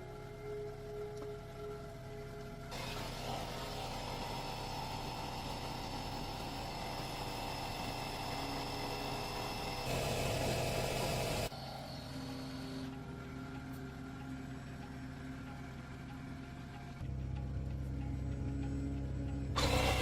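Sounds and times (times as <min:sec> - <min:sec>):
motor humming: 0:00.0 - 0:17.1, 0:19.3 - 0:20.0.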